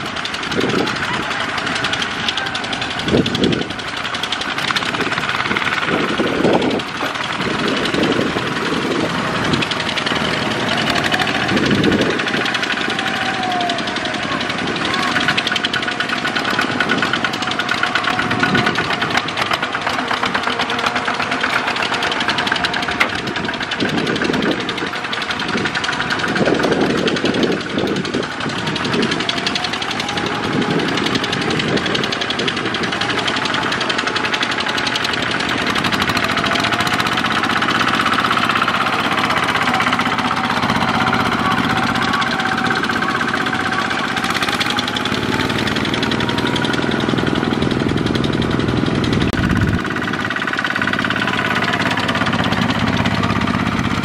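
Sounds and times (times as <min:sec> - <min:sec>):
diesel tractor engines chugging: 0:00.0 - 0:54.0.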